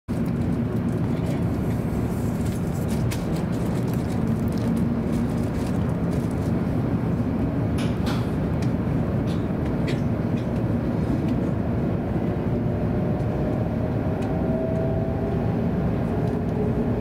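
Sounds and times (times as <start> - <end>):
train running gear rumble: 0.1 - 17.0.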